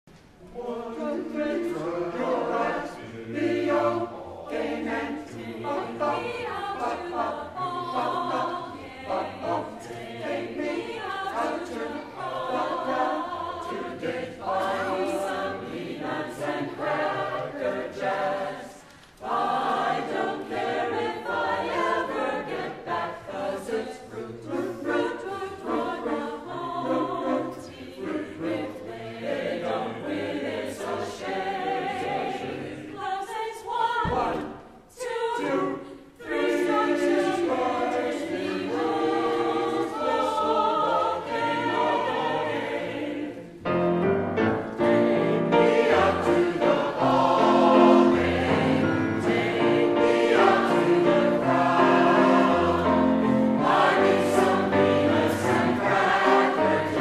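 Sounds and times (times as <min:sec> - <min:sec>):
choir singing: 0:00.4 - 0:57.0.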